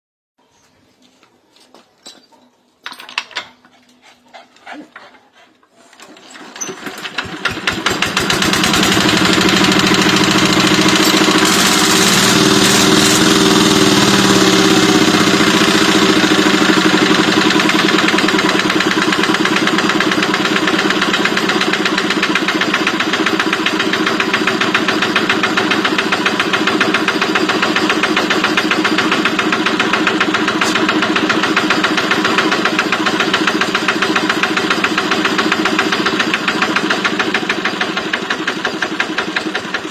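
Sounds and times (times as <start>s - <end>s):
diesel engine starting and running: 6.1s - 39.9s.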